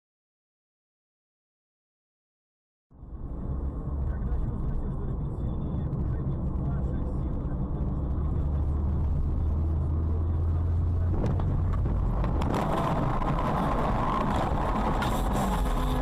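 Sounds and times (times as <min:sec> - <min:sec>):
car engine and road hum: 0:02.9 - 0:16.0
rushing noise: 0:03.2 - 0:16.0.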